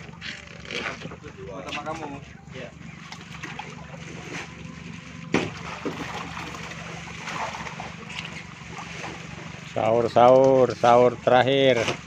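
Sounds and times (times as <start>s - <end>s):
steady low hum: 0.0s - 12.0s
water splashing and sloshing: 0.0s - 12.0s.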